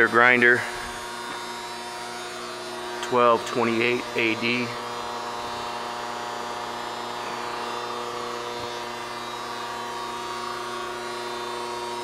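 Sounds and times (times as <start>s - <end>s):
surface grinder electric hum: 0.0s - 12.0s.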